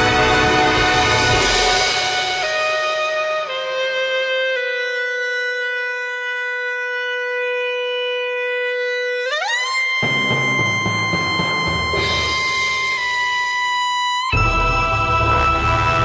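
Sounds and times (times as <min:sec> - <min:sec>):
low musical accompaniment: 0:00.0 - 0:16.0
wind instrument melody: 0:00.0 - 0:16.0.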